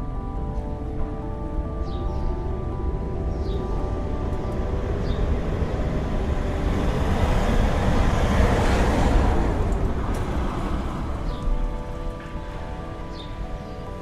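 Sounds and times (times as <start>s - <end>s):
blizzard wind blowing hard: 0.0s - 14.0s.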